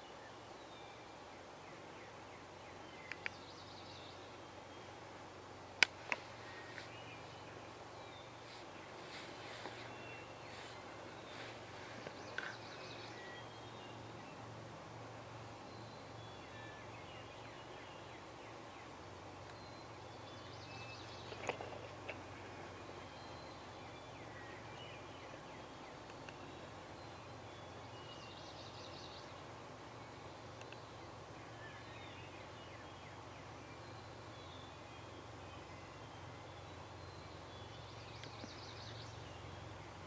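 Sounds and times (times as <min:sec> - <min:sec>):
songbird chirps and trills: 0:00.0 - 0:40.0.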